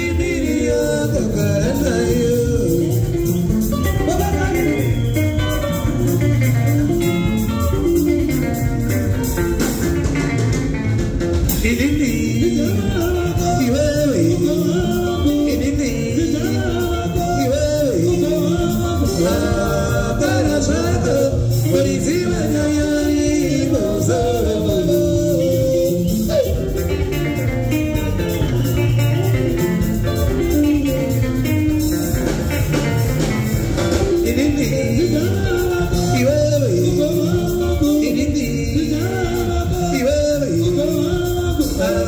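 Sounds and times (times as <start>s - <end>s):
voices singing: 0.0s - 9.8s, 11.5s - 42.0s
drums: 0.0s - 42.0s
electric guitars: 0.0s - 42.0s.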